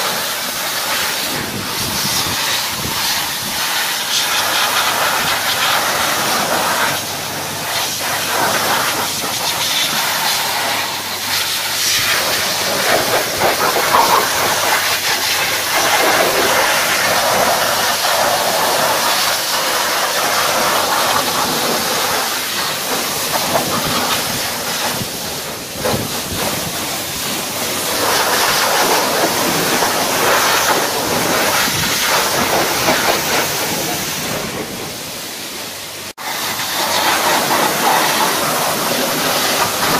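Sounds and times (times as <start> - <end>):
high-pressure water spray hissing: 0.0 - 39.9.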